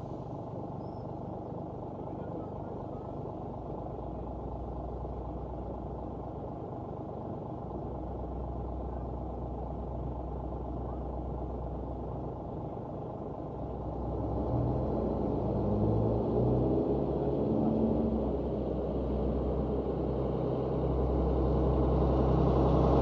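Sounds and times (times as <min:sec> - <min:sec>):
bus engine humming: 0:00.0 - 0:23.0.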